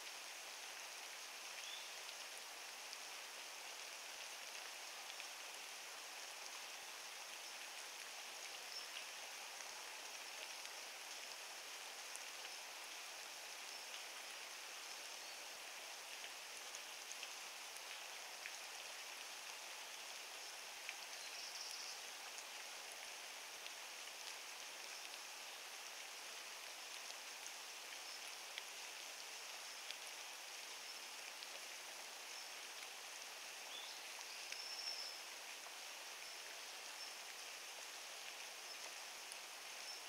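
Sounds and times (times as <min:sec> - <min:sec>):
light rain hissing: 0:00.0 - 0:40.0.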